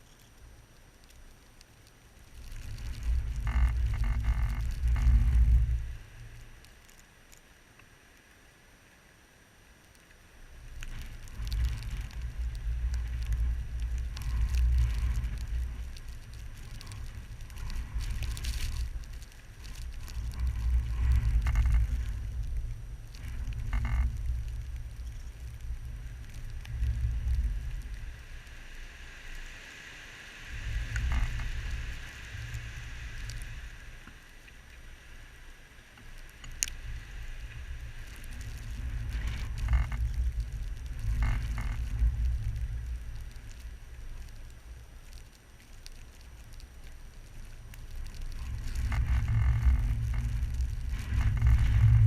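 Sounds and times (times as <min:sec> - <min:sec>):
blizzard wind buffeting microphone: 0:00.6 - 0:07.0, 0:10.4 - 0:52.0.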